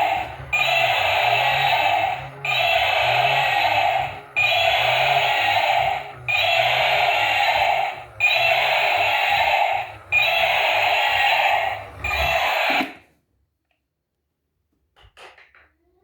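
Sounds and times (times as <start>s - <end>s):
toy alarm-like tone: 0.0s - 13.0s.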